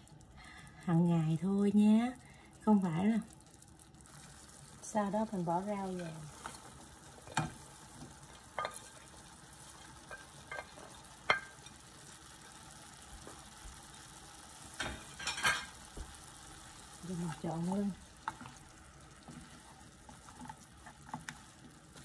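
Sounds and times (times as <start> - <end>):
frying pan sizzle: 0.0 - 22.0.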